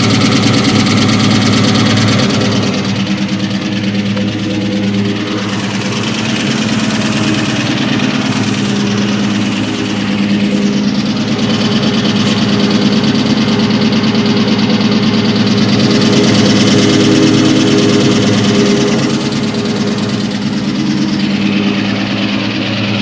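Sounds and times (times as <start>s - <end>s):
car engine idling with knocking: 0.0s - 23.0s.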